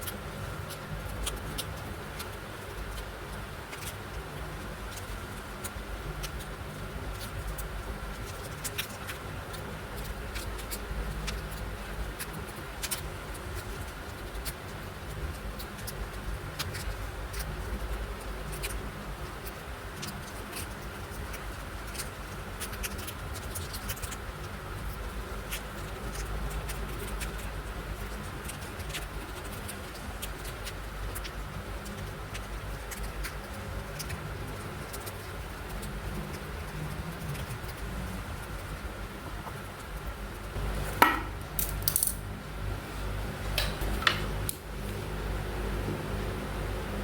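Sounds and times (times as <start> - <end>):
low background hum: 0.0 - 47.0.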